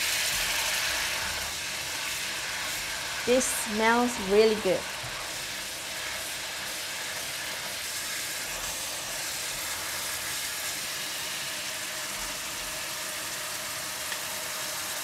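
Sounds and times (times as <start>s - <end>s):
sauce sizzling in a wok: 0.0s - 15.0s.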